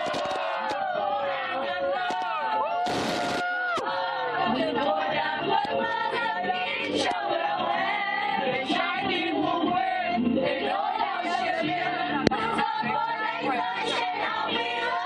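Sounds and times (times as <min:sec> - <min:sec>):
mixed choir singing: 0:00.0 - 0:02.8, 0:03.6 - 0:15.0.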